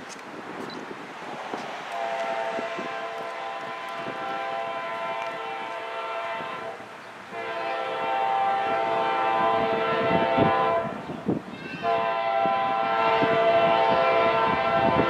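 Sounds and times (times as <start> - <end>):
train air horn blasts: 1.9 - 15.0.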